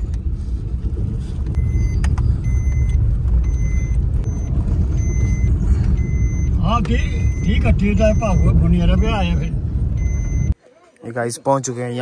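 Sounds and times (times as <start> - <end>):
car interior low rumble: 0.0 - 10.6.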